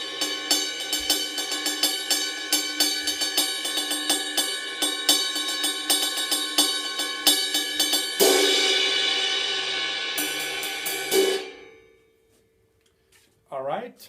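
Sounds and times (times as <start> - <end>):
cymbal crash wash: 0.0 - 11.9
ride cymbal played with a stick: 0.0 - 12.1.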